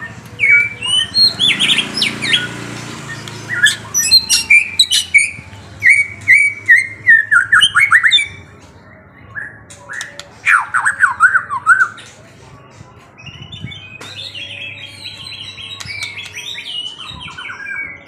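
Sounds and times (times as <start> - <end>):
songbird chirping and whistling: 0.0 - 12.2, 13.2 - 18.0.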